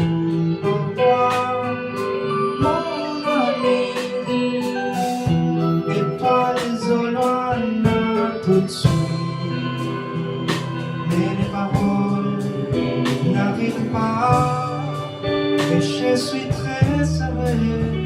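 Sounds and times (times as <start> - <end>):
drum kit keeping time: 0.0 - 18.0
electric guitar lead line: 0.0 - 18.0.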